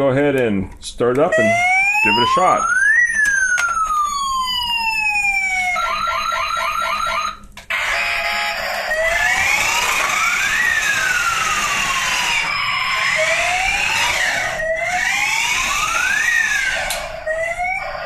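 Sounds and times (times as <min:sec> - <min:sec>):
electronic toy siren wailing: 0:01.3 - 0:18.0.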